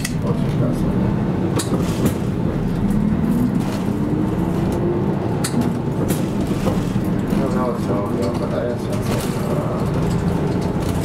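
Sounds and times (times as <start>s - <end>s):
bus engine rumble: 0.0s - 11.0s
sharp clicks and rattles: 1.5s - 11.0s.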